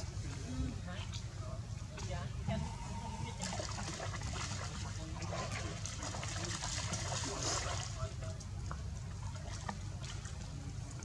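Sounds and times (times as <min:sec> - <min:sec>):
water lapping and splashing: 0:00.0 - 0:11.0.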